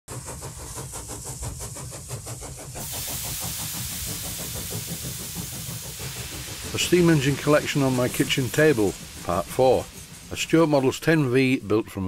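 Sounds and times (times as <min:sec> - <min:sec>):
steam engine exhaust beats: 0:00.1 - 0:11.9
steady hiss of steam: 0:00.1 - 0:12.0.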